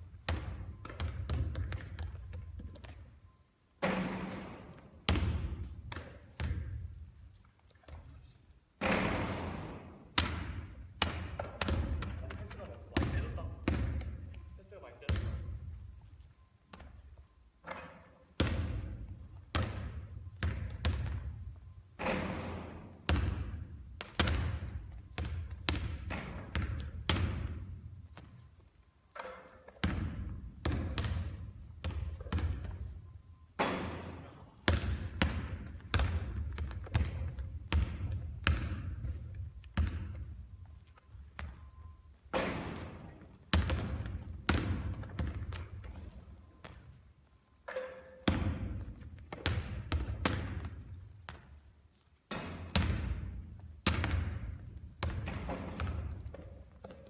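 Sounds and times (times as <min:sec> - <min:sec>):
basketball bouncing on hard court: 0:00.0 - 0:03.1, 0:03.8 - 0:07.1, 0:08.8 - 0:15.8, 0:16.7 - 0:17.1, 0:17.7 - 0:28.5, 0:29.1 - 0:47.0, 0:47.7 - 0:51.7, 0:52.3 - 0:57.0.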